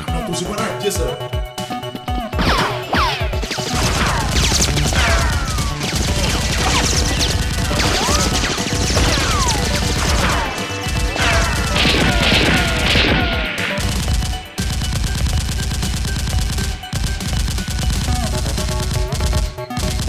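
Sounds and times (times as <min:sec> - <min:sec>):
background music: 0:00.0 - 0:20.0
rapid gunfire effects: 0:01.5 - 0:20.0.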